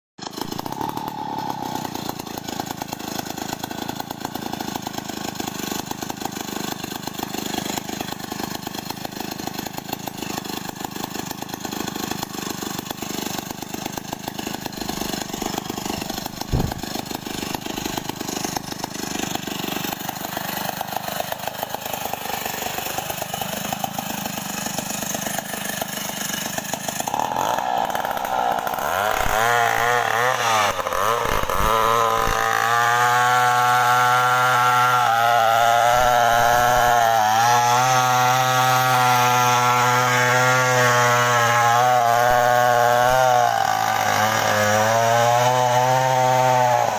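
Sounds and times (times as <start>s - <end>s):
chainsaw running: 0.2s - 46.9s.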